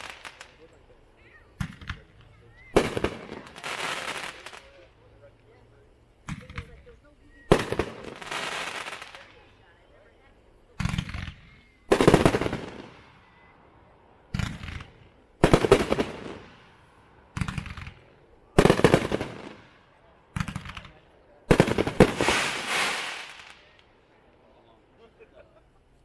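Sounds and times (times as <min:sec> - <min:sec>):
firework bursts crackling: 0:00.0 - 0:09.7, 0:10.4 - 0:24.1.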